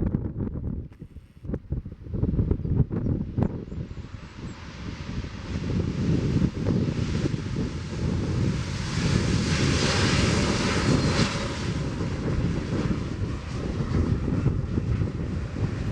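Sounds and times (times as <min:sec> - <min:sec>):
jet engines rushing and rumbling: 0:00.1 - 0:15.9.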